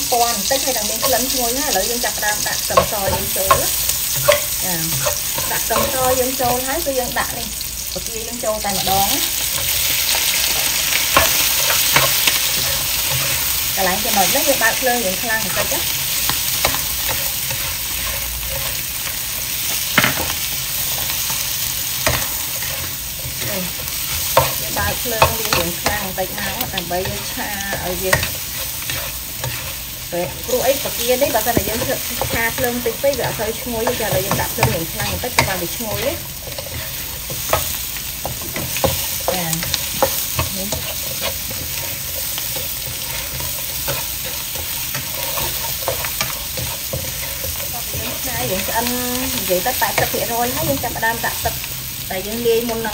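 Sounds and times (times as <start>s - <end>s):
shrimp sizzling in hot oil: 0.0s - 52.9s
spatula scraping and knocking pan: 0.6s - 6.8s, 8.6s - 51.4s.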